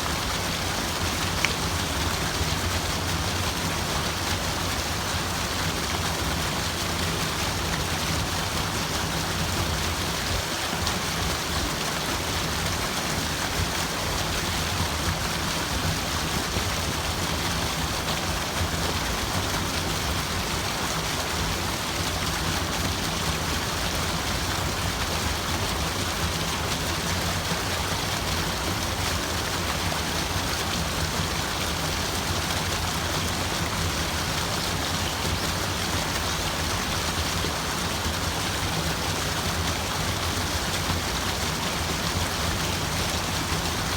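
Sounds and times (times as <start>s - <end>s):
steady rushing water: 0.0s - 43.9s.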